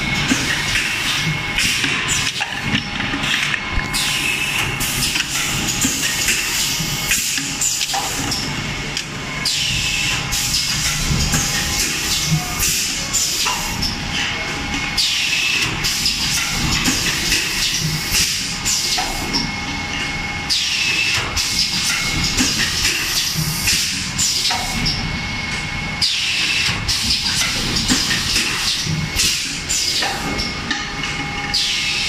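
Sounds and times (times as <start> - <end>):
machine din with high whine: 0.0 - 32.0.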